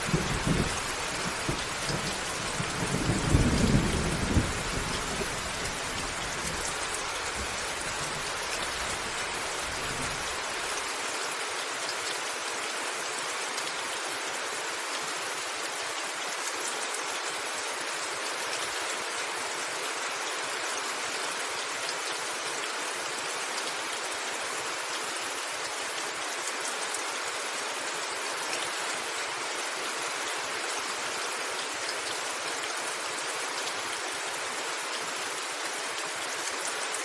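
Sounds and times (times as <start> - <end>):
heavy rain on a roof: 0.0 - 37.0.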